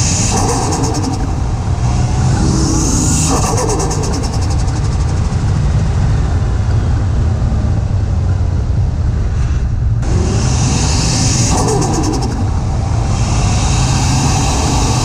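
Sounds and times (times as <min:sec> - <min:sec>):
car engine rumbling: 0:00.0 - 0:15.0
road noise: 0:00.0 - 0:15.0.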